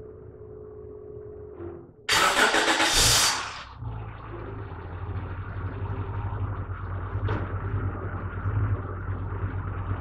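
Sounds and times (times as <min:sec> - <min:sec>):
car engine starting and idling: 0:00.0 - 0:10.0.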